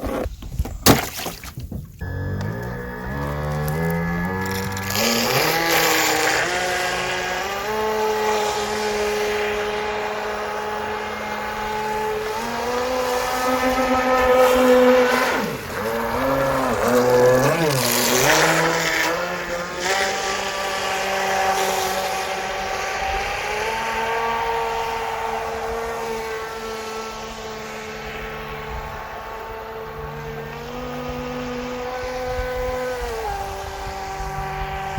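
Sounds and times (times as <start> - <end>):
electric motor whining: 2.0 - 34.9.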